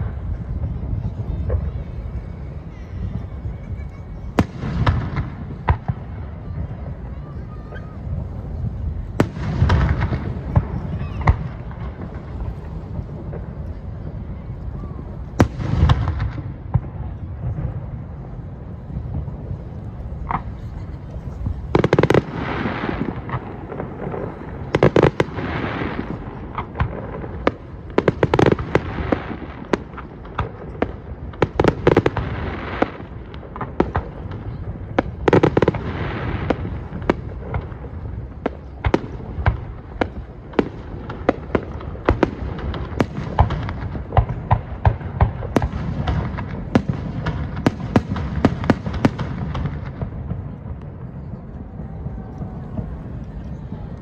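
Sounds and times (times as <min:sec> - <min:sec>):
fireworks bursting with sharp bangs: 0:00.0 - 0:54.0.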